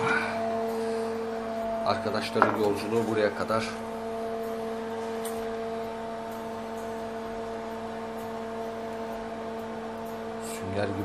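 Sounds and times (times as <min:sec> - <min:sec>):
appliance motor humming: 0:00.0 - 0:11.0.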